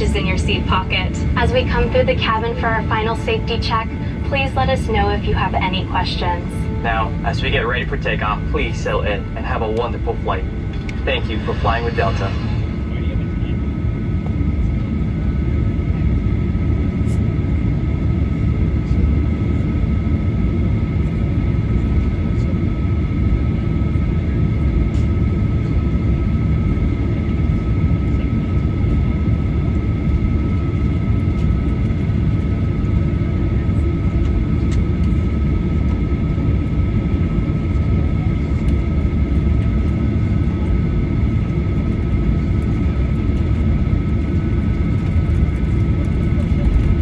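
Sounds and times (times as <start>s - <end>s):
jet engine cabin rumble and whine: 0.0s - 47.0s.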